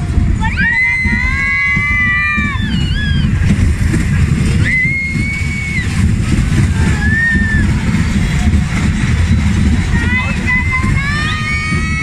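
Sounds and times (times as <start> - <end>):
fairground ride rumbling: 0.0 - 12.0
wind buffeting microphone: 0.0 - 12.0.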